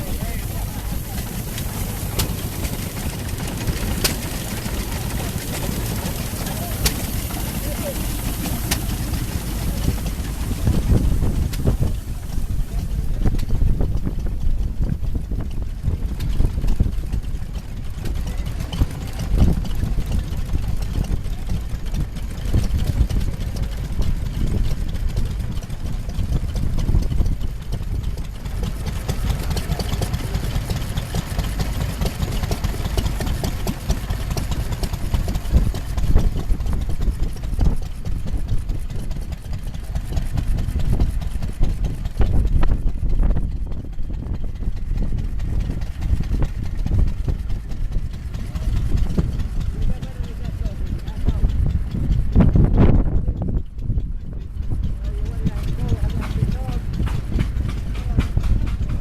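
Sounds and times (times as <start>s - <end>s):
engine running at low revs: 0.0s - 59.0s.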